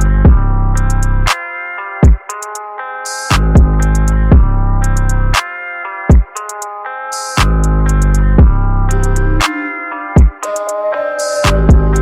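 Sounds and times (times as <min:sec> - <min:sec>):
hip-hop beat: 0:00.0 - 0:12.0
plucked guitar-like melody: 0:00.0 - 0:12.0.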